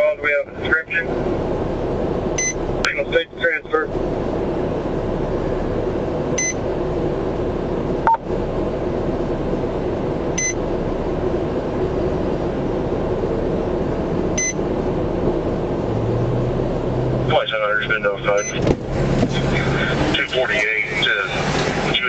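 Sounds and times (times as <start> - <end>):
car engine and cabin hum: 0.0 - 22.0.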